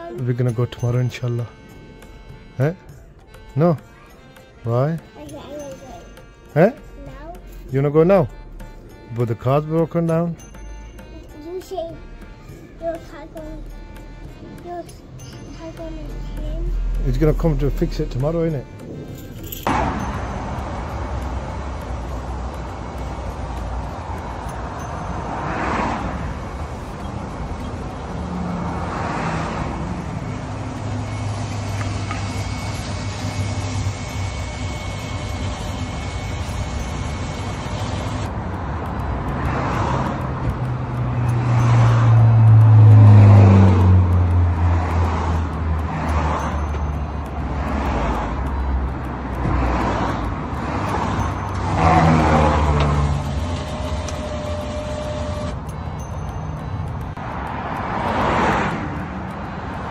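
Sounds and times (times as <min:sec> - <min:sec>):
low engine hum: 0:00.0 - 0:59.9
vehicle passing: 0:00.0 - 0:59.9.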